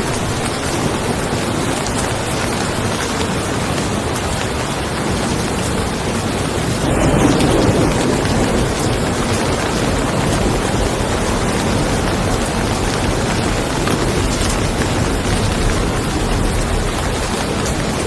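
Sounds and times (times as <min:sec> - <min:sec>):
rain falling on a car: 0:00.0 - 0:18.0
thunder rumbling: 0:00.0 - 0:18.0.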